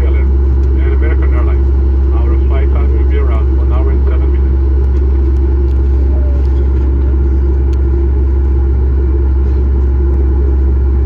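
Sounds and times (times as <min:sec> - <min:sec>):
aircraft cabin low rumble: 0:00.0 - 0:11.0.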